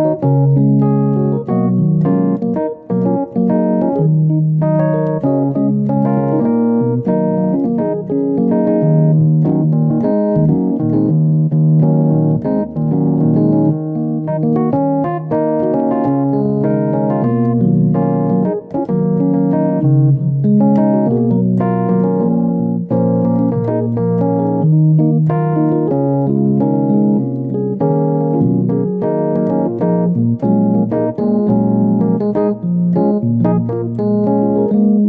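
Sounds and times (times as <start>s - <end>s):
piano chords and notes: 0.0s - 35.0s.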